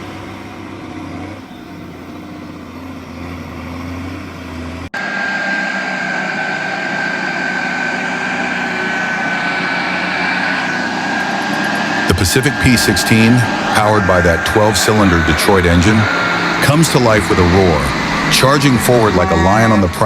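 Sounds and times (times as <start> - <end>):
heavy vehicle engine hum: 0.0 - 20.0
high-pitched engine whine: 0.0 - 20.0.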